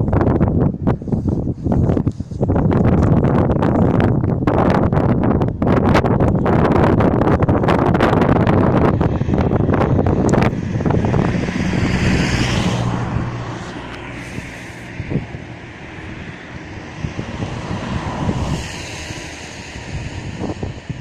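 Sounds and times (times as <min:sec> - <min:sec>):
wind gusting on microphone: 0:00.0 - 0:21.0.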